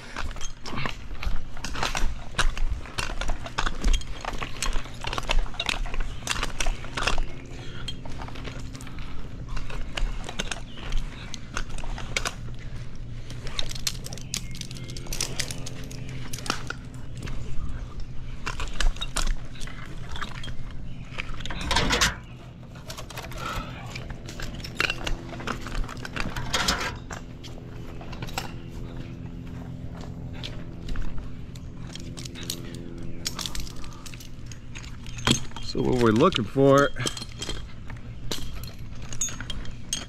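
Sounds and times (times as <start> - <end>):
climbing gear clinking on bark: 0.0 - 40.0
steady low hum: 0.0 - 40.0.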